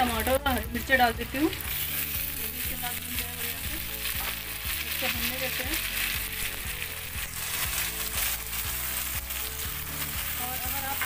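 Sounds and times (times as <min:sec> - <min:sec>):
background music with beat: 0:00.0 - 0:11.0
vegetables sizzling in hot oil: 0:00.0 - 0:11.0.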